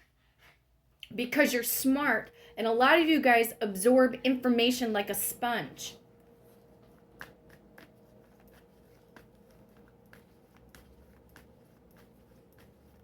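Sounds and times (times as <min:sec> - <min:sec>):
faint steady hum: 0:00.5 - 0:13.0.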